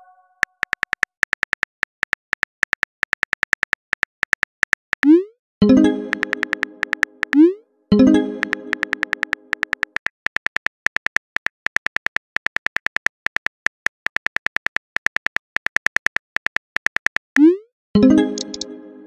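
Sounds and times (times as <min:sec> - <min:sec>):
keyboard typing clicks: 0:00.4 - 0:17.5, 0:18.1 - 0:18.8.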